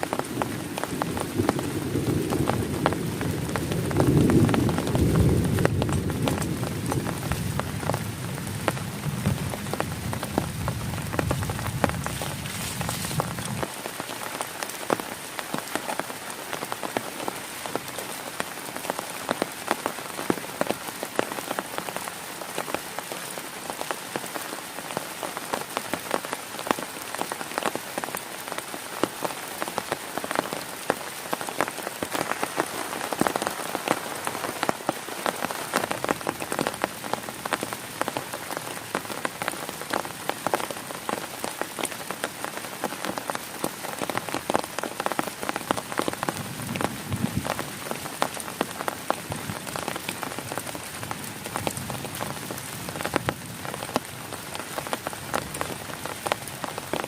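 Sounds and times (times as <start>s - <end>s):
rain pattering on tent fabric: 0.0s - 57.0s.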